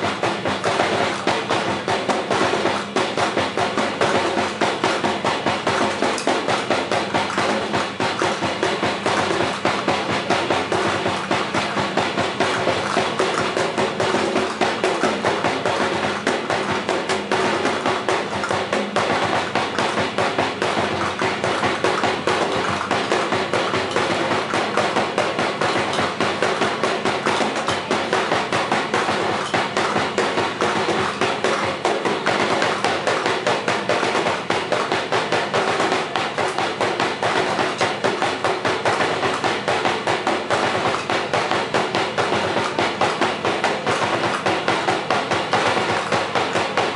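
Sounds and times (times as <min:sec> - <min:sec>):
dance music with fast drumbeat: 0:00.0 - 0:46.9.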